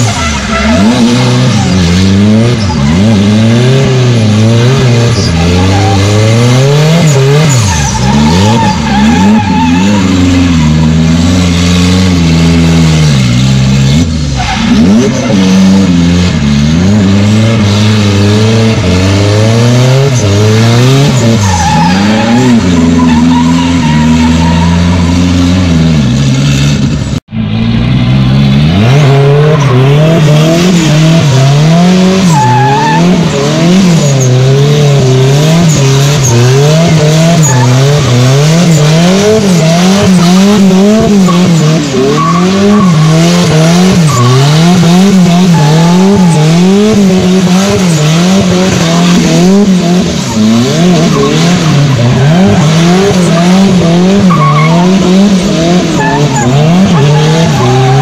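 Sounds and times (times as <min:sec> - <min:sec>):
tyres sliding on wet asphalt: 0:00.0 - 0:13.5, 0:14.3 - 0:27.0, 0:28.8 - 0:58.0
car engine revving: 0:00.0 - 0:58.0.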